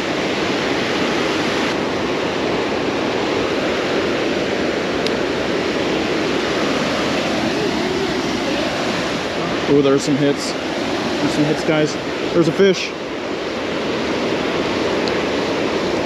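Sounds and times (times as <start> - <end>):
water rushing over dam: 0.0 - 16.0.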